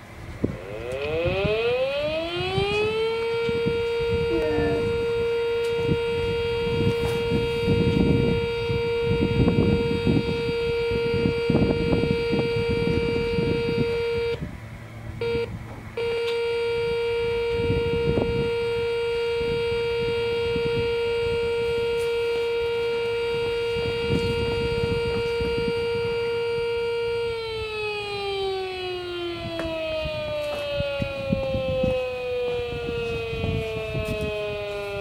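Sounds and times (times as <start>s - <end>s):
low rumbling noise: 0.0s - 35.0s
warning siren steady note: 0.0s - 35.0s.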